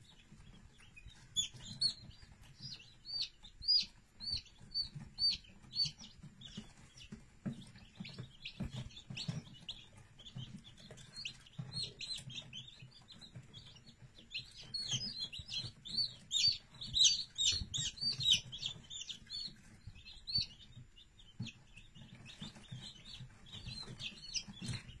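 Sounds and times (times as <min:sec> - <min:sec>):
chick peeping: 0:00.0 - 0:25.0.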